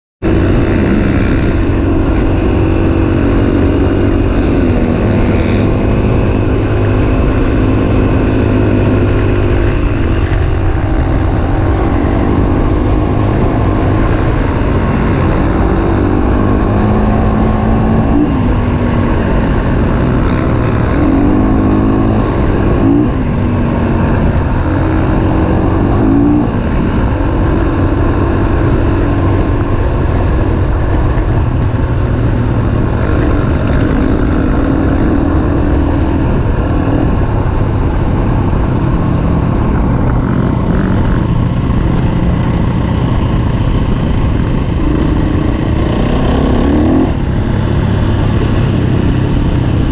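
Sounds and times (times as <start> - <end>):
dirt bike engine revving: 0.2 - 49.9
wind rumble on microphone: 0.2 - 49.9.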